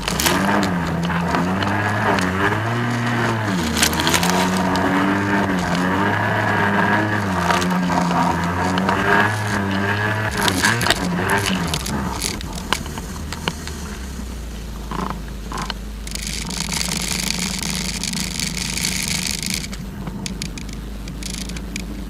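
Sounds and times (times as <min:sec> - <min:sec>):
sharp clicks: 0:00.0 - 0:14.0, 0:14.8 - 0:22.0
jet ski engine running: 0:00.0 - 0:22.0.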